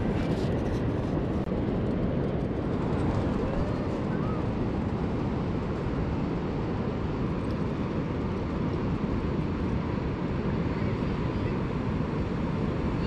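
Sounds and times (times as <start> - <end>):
distant ocean surf: 0.0 - 13.0
wind buffeting microphone: 0.0 - 13.0.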